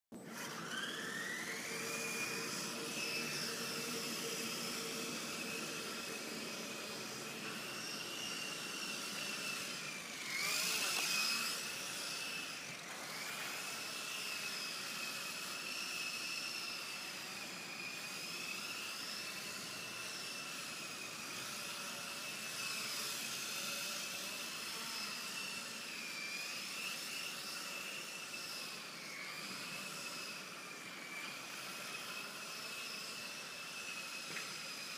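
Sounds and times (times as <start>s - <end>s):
drone propellers whining: 0.2s - 34.9s.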